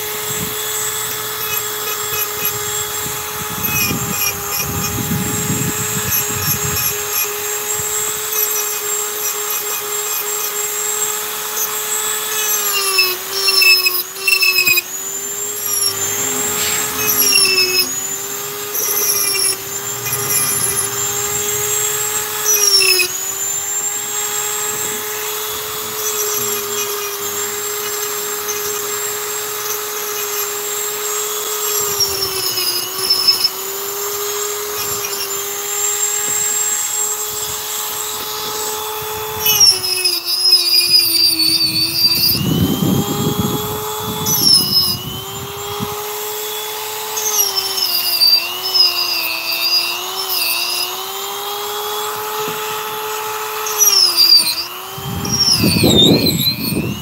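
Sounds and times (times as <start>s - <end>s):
rotary tool carving wood: 0.0s - 57.0s.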